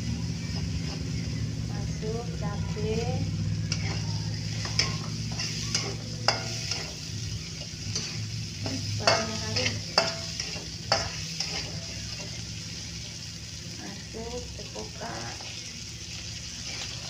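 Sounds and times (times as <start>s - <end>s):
chilies sizzling in hot oil: 0.0s - 17.0s
steady low hum: 0.0s - 17.0s
metal spatula scraping wok: 2.4s - 13.0s, 13.8s - 17.0s.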